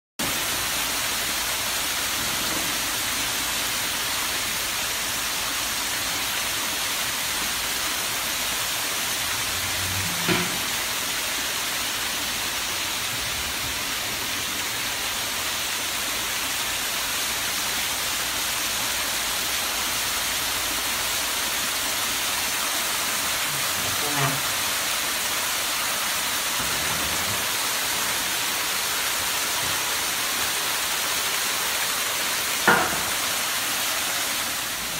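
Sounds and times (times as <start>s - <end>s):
small waterfalls splashing: 0.2s - 34.9s.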